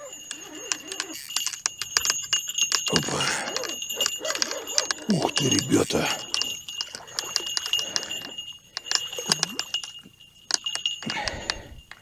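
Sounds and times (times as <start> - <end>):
fishing bite-alarm bell jingling: 0.0 - 12.0.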